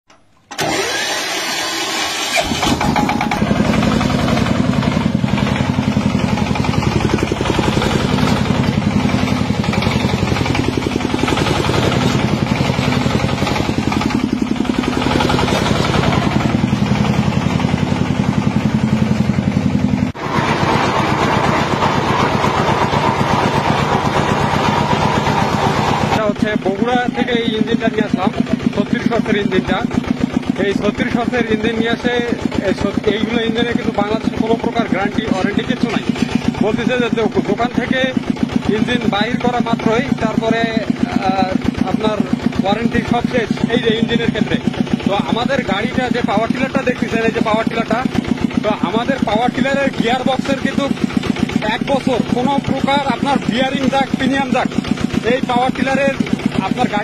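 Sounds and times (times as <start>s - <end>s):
diesel engine running: 0.5s - 57.0s
harsh noisy engine sound: 0.5s - 57.0s.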